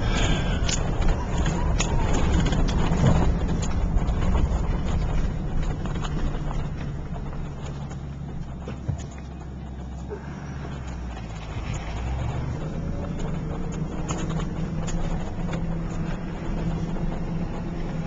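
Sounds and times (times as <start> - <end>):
tyres rolling on gravel: 0.0 - 18.0
vehicle engine running: 0.0 - 18.0
small knocks and rattles: 0.1 - 18.0.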